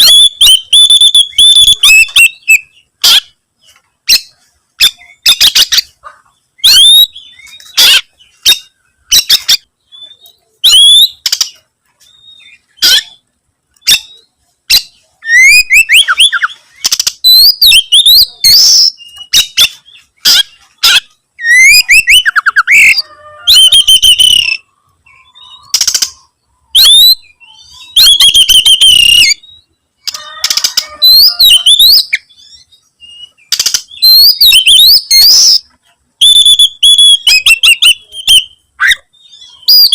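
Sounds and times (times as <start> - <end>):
magpie-robin singing: 0.0 - 3.4, 4.0 - 13.2, 13.8 - 39.9.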